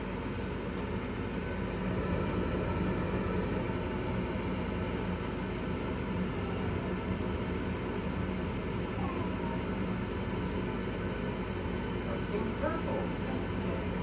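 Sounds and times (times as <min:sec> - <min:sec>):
furnace motor humming: 0:00.0 - 0:14.0.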